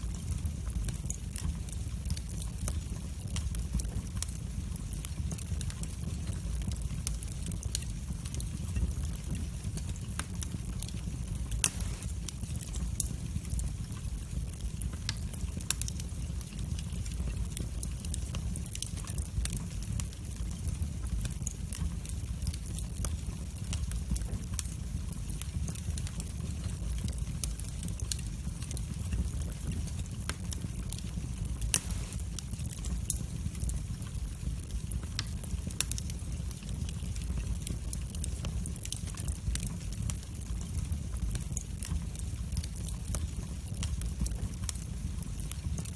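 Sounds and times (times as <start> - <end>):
fire crackling and popping: 0.0 - 45.9
fire rumbling: 0.0 - 45.9.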